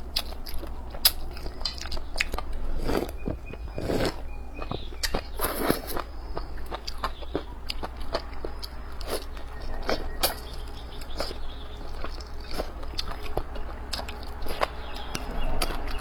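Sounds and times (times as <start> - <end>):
person chewing and lip smacking: 0.0 - 16.0
steady low hum: 0.0 - 16.0.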